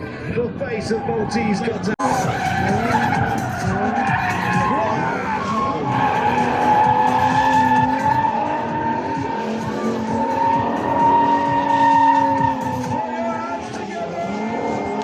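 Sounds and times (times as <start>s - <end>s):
engines revving: 0.0s - 15.0s
tyres squealing: 0.9s - 15.0s.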